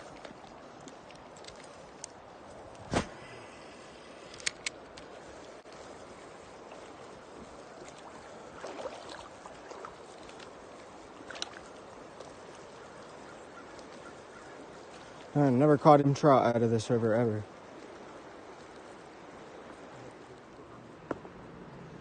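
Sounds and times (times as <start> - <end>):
river water running: 0.0 - 22.0.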